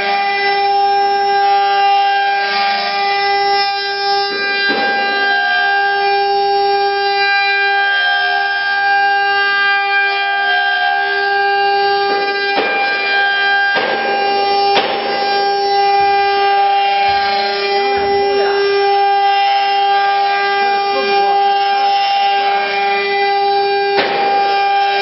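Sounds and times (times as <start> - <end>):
router spindles whining: 0.0 - 25.0.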